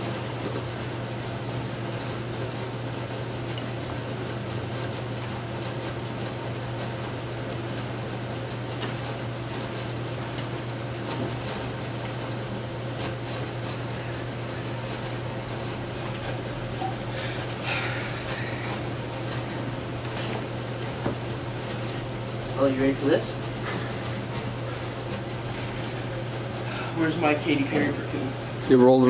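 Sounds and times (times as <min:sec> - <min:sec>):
air conditioner hum: 0:00.0 - 0:29.0.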